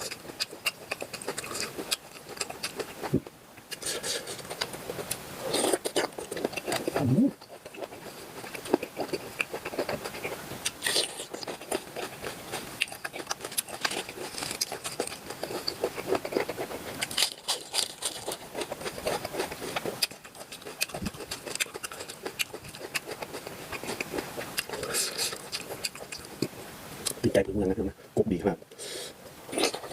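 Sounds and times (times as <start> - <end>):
wet chewing: 0.0 - 27.3, 29.5 - 29.9.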